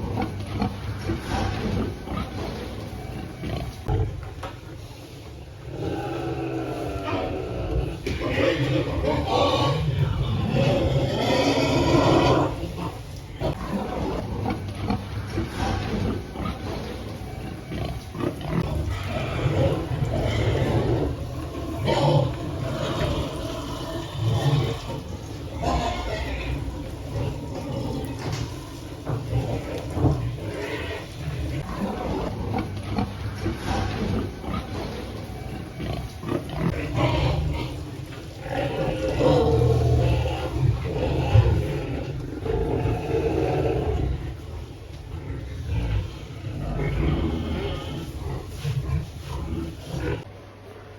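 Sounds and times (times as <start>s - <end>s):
pigs grunting: 0.0s - 50.9s.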